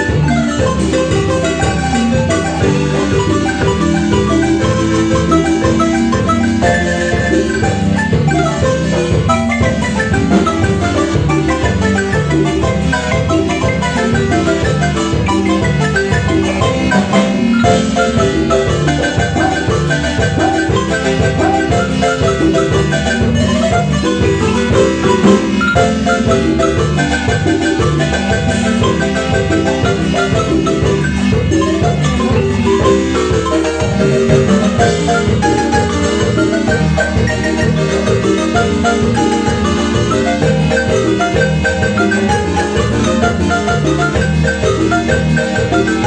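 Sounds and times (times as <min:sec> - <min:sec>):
low bass notes: 0:00.0 - 0:46.0
marimba music: 0:00.0 - 0:46.0.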